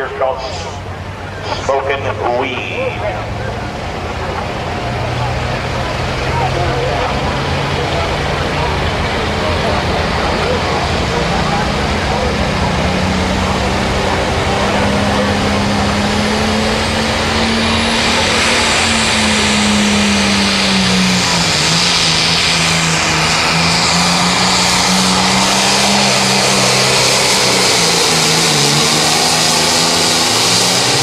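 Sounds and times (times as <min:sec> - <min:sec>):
tractor diesel engine at full throttle: 0:00.0 - 0:31.0.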